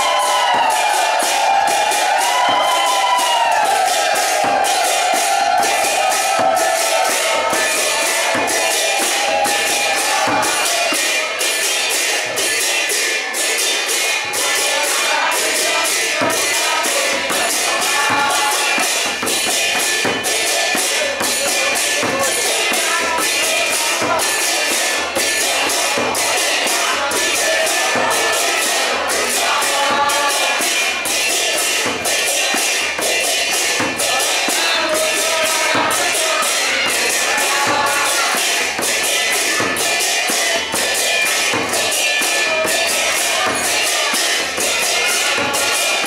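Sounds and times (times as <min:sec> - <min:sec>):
drum thumping: 0:00.0 - 0:11.1, 0:15.2 - 0:46.0
group of voices chanting: 0:00.0 - 0:46.0
hand cymbals clashing: 0:00.0 - 0:46.0.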